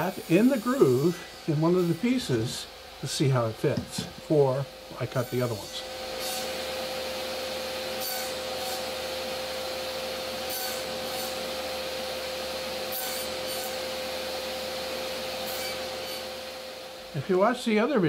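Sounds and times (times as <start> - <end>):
saw blade cutting wood: 0.0 - 9.4, 10.2 - 17.0
table saw whine: 0.0 - 18.0.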